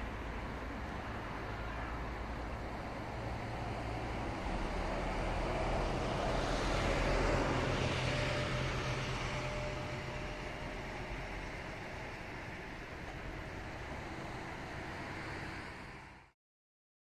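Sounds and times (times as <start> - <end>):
vehicle passing by: 0.0 - 16.3.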